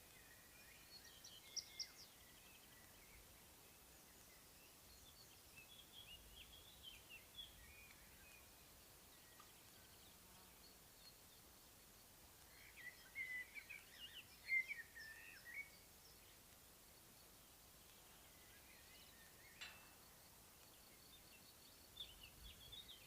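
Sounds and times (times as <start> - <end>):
faint steady hiss: 0.0 - 23.0
songbirds singing: 0.0 - 23.0.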